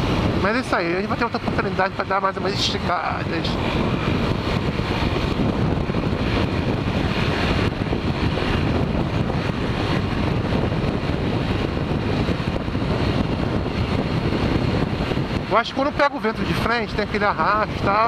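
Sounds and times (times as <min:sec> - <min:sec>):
motorcycle engine running: 0:00.0 - 0:18.0
wind blasting microphone: 0:00.0 - 0:18.0.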